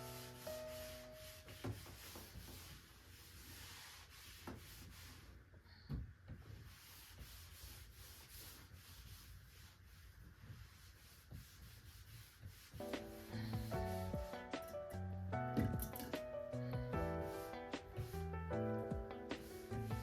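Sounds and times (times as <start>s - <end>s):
faint rubbing noise: 0.0s - 5.5s, 6.4s - 14.8s, 17.1s - 20.0s.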